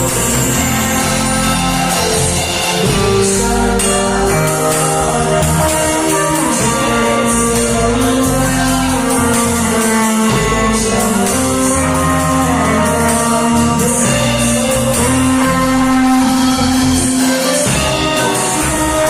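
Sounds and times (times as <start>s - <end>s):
bass line: 0.0s - 19.0s
cymbals: 0.0s - 19.0s
guitar: 0.0s - 19.0s
person singing melody: 0.0s - 19.0s.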